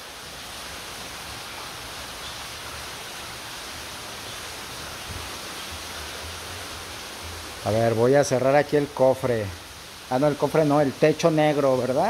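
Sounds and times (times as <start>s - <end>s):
heavy rain pouring: 0.0s - 12.0s
water streaming off roof: 0.0s - 12.0s.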